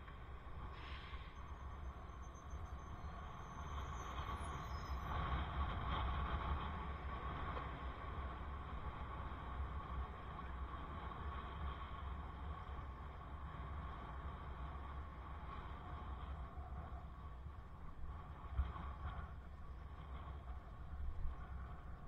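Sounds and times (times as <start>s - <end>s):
wind noise on microphone: 0.4s - 22.0s.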